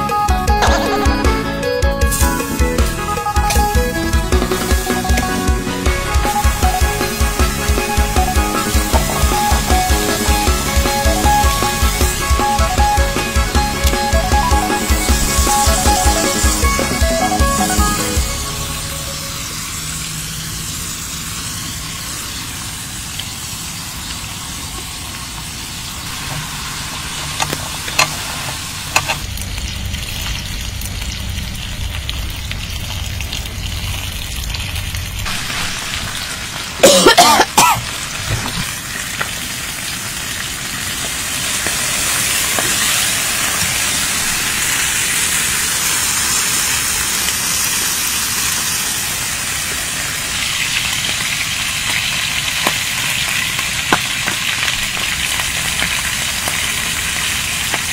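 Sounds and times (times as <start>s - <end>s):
pork sizzling on a griddle: 2.1s - 57.9s.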